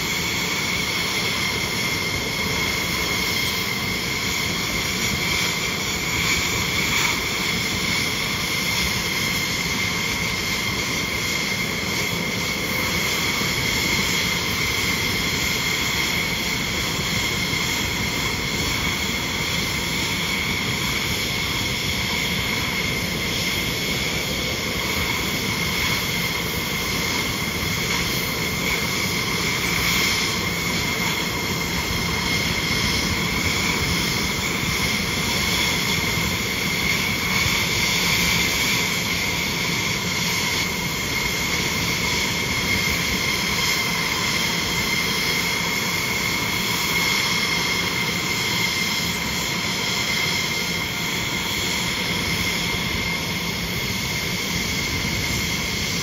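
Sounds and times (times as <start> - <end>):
jet engines whining and roaring: 0.0 - 56.0.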